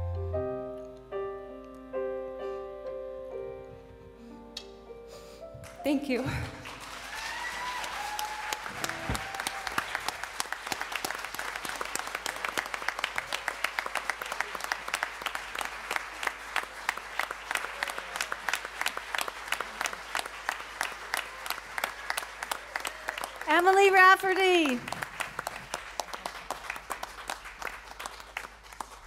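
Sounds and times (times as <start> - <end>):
audience applauding: 5.6 - 29.0.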